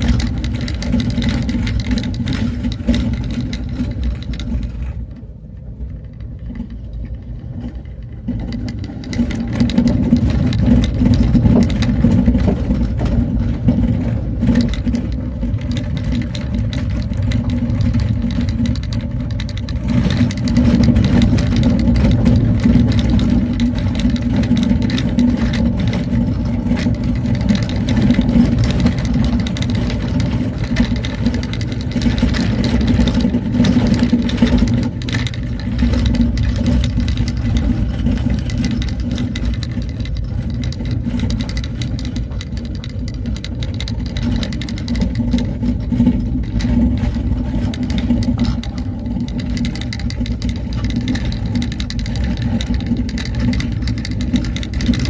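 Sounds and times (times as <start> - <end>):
small knocks and rattles: 0.0 - 55.0
vehicle engine low rumble: 0.0 - 55.0.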